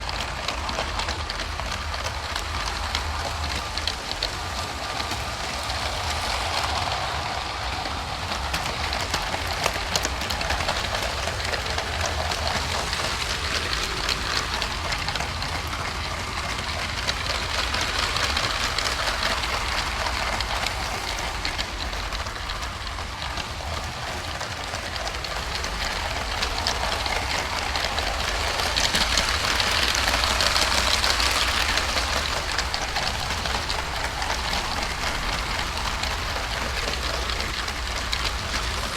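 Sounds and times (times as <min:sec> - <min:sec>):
toy train wheels clattering: 0:00.0 - 0:38.9.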